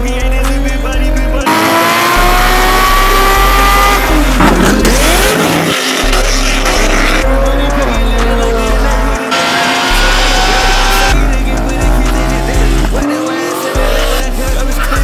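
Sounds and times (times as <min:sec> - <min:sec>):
car engines revving: 0:00.0 - 0:15.0
music bass beat: 0:00.0 - 0:15.0.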